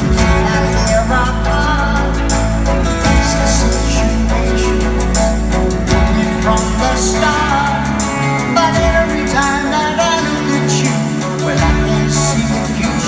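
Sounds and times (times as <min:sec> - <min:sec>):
live band playing pop-rock: 0:00.0 - 0:13.0
man singing: 0:00.0 - 0:13.0.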